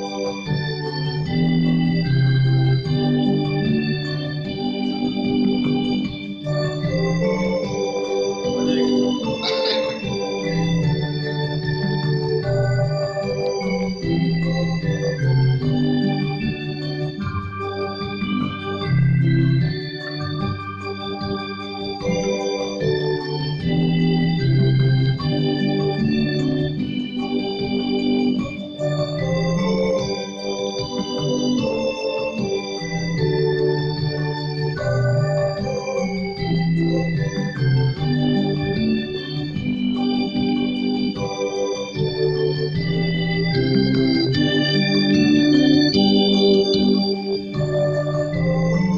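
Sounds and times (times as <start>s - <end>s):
organ playing chords: 0.0s - 48.9s.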